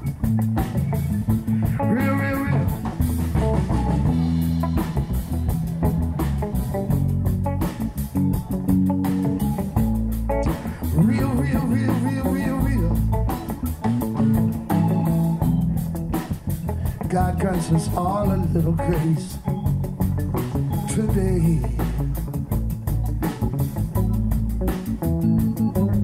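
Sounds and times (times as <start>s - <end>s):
bass line: 0.0s - 26.0s
drum beat: 0.0s - 26.0s
rock guitar: 0.0s - 26.0s.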